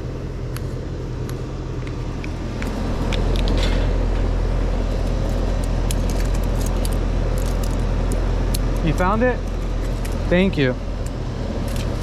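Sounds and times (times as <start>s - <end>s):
air conditioning unit humming: 0.0s - 12.0s.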